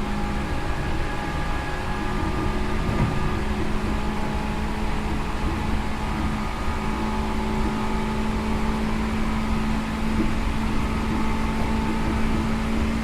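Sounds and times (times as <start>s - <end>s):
electric train interior rumble: 0.0s - 13.0s.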